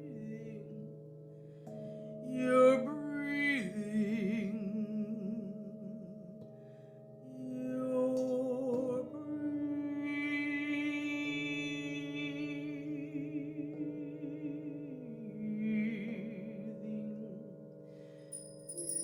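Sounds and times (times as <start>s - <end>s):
woman singing wordless notes: 0.0s - 1.0s, 2.2s - 6.5s, 7.2s - 17.7s.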